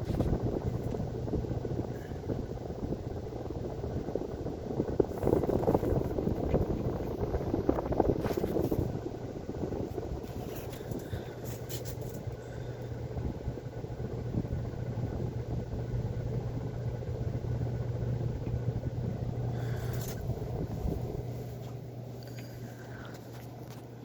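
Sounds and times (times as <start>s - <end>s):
air rushing from fan blades: 0.0s - 24.0s
ceiling fan motor hum: 0.0s - 24.0s.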